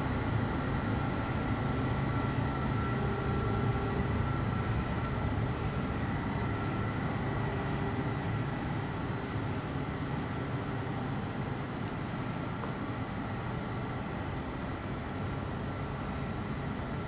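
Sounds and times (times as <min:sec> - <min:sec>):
faint machinery whine: 0:00.0 - 0:17.0
machinery low hum: 0:00.0 - 0:17.0.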